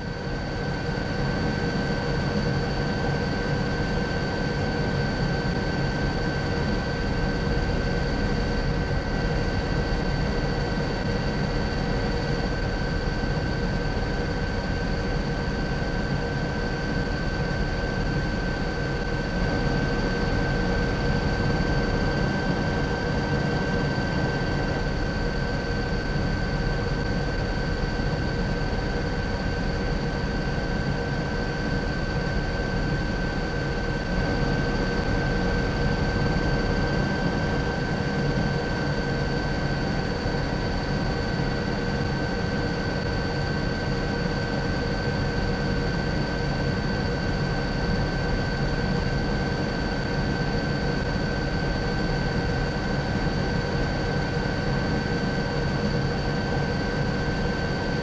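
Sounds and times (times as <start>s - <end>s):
helicopter rumble and turbine whine: 0.0s - 58.0s.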